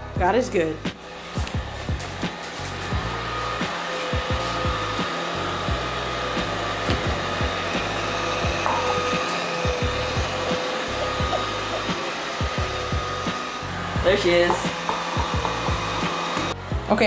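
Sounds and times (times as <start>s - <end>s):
robot vacuum whirring: 1.0s - 16.6s.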